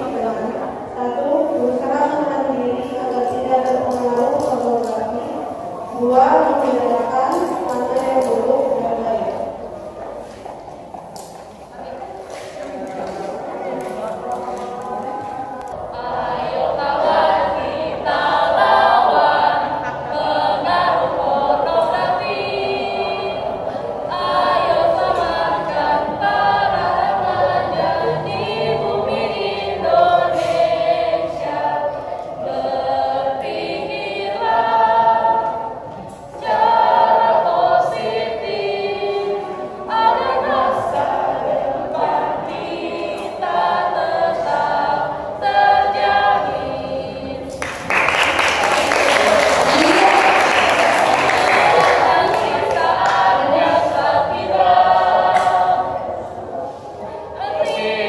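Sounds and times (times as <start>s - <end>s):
teenagers singing together: 0.0s - 58.0s.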